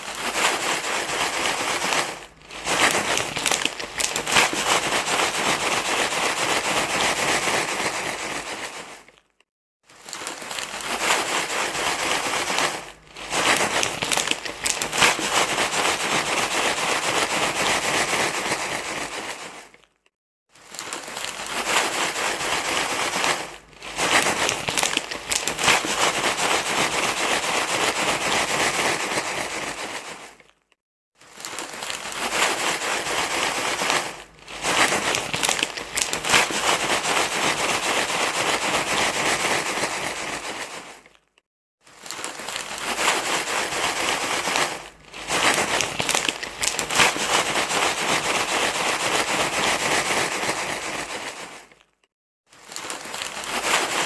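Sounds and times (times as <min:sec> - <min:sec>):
crinkling rustling noise: 0:00.0 - 0:54.0.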